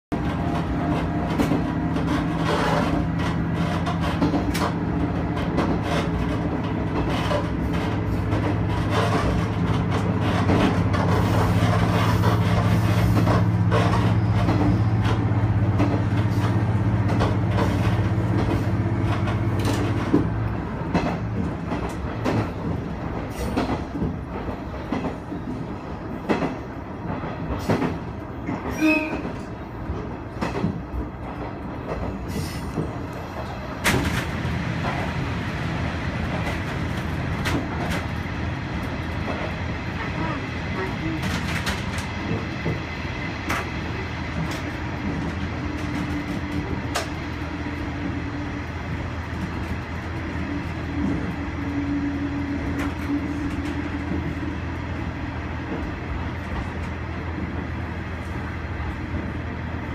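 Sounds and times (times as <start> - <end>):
wheels clicking on rail joints: 0.1 - 59.9.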